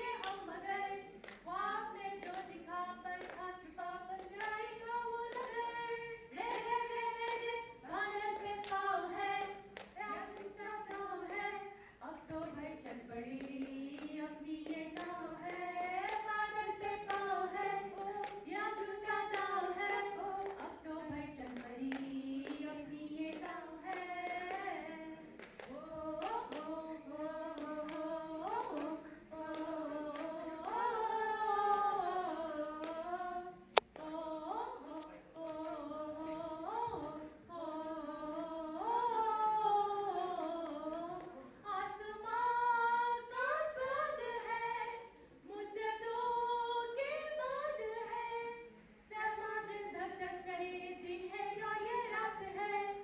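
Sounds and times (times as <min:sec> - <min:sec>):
two women singing: 0:00.0 - 0:53.0.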